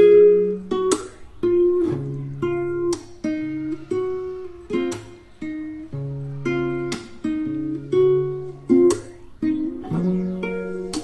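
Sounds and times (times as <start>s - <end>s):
acoustic guitar plucking chords: 0.0s - 11.0s.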